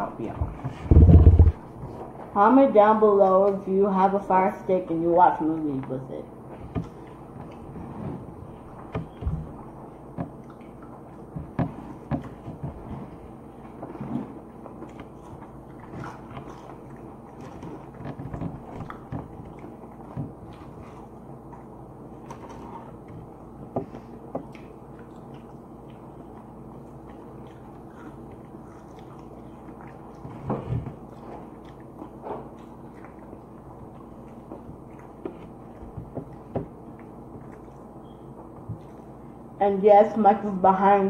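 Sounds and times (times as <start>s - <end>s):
steady low hum: 0.0s - 41.0s
chewing and crunching: 6.5s - 39.5s.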